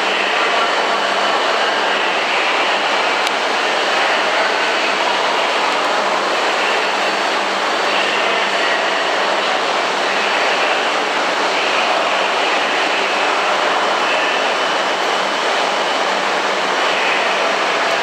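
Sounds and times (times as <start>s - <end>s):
train equipment humming: 0.0s - 18.0s.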